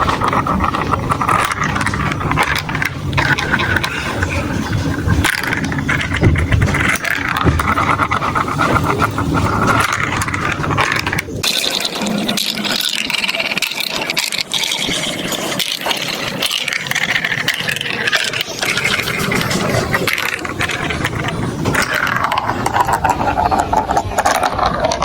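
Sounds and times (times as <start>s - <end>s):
marbles rolling down plastic track: 0.0s - 25.0s.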